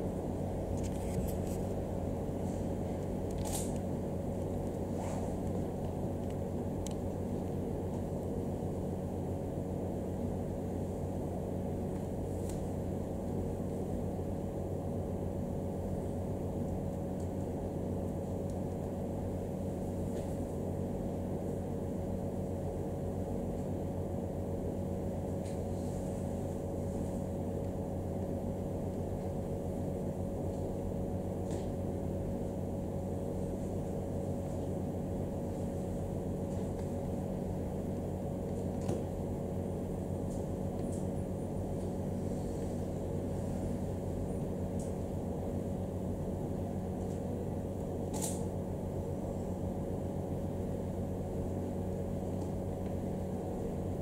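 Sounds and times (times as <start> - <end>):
room noise hum and hiss: 0.0 - 54.0.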